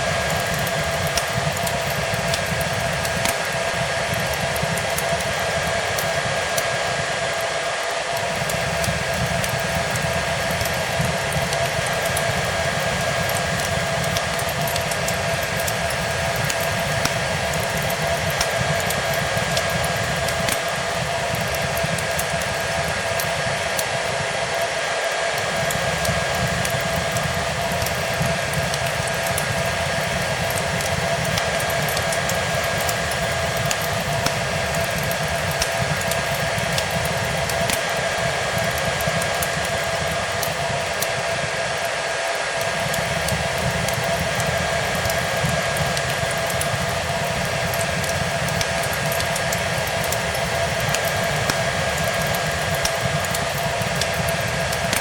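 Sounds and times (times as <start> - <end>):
hair dryer running: 0.0 - 55.0
wood fire crackling: 0.0 - 55.0.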